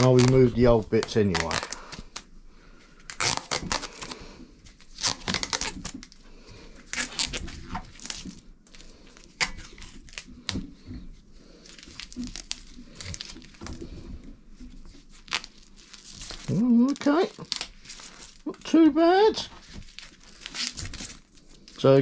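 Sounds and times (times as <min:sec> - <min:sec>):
bar tape tearing and crinkling: 0:00.0 - 0:22.0.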